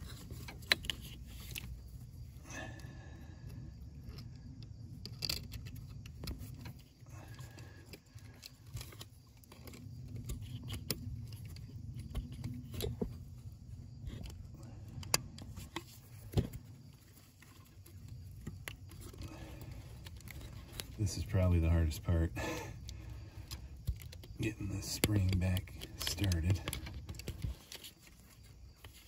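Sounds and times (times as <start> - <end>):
plastic clicks and scrapes: 0.0 - 2.4, 4.0 - 21.7, 22.8 - 29.0.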